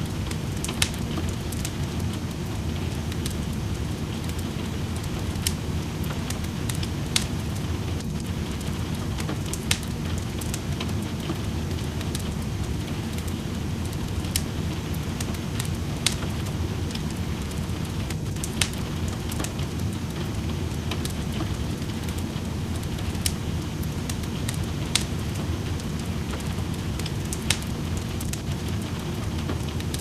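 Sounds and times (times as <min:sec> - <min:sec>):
rain hissing: 0:00.0 - 0:30.0
wood fire crackling and popping: 0:00.0 - 0:30.0.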